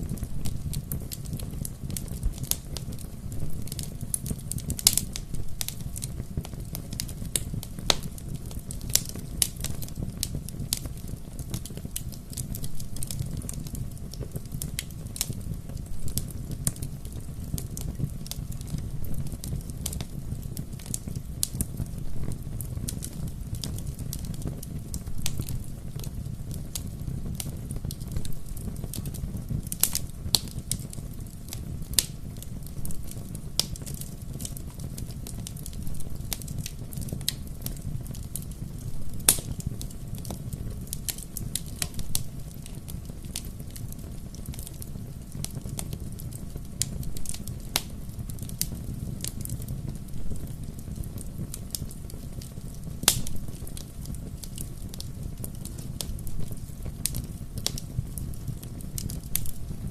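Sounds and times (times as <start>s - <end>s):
bonfire crackling: 0.0s - 59.9s
fire popping: 0.0s - 59.9s
low rumble of flames: 0.0s - 59.9s.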